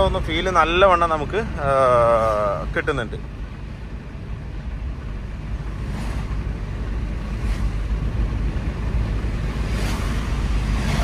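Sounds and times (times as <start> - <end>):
car engine and road rumble: 0.0 - 11.0
wind: 0.0 - 11.0.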